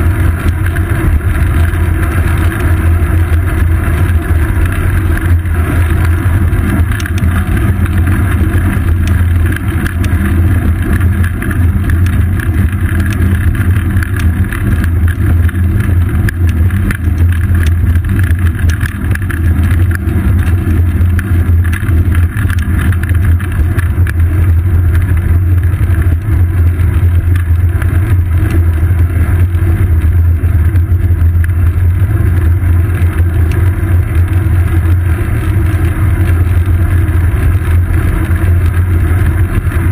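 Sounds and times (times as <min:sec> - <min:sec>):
bicycle tyres rumbling on asphalt: 0:00.0 - 0:39.9
wind rush on microphone: 0:00.0 - 0:39.9.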